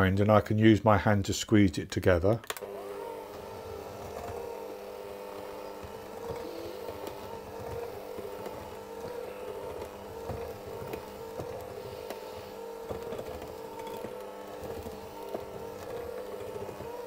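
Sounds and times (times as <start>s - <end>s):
electric mixer motor running: 2.5s - 17.0s.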